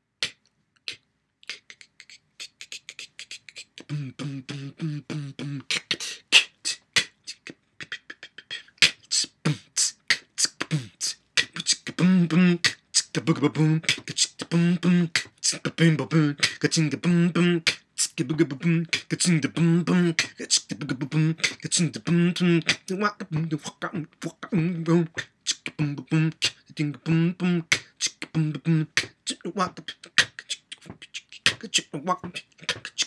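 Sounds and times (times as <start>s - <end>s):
man beatboxing: 0.2s - 33.0s
hummed voice tone: 0.9s - 33.0s.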